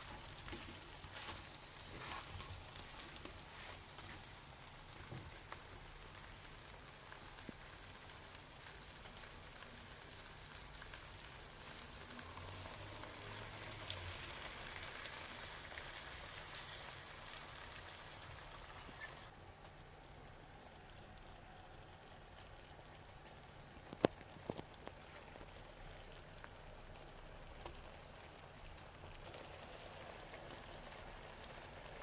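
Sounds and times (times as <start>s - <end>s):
food sizzling in a frying pan: 0.0s - 19.3s, 20.7s - 32.0s.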